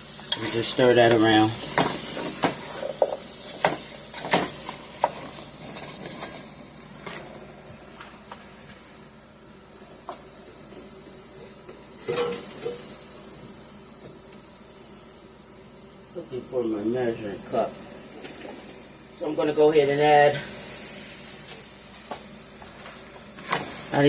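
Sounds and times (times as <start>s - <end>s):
sweet potatoes sizzling in a pan: 0.0s - 24.0s.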